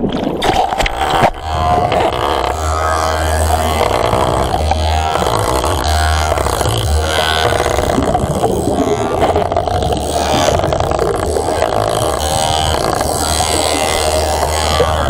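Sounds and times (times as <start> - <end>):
underwater rumble and bubbling: 0.0 - 15.0.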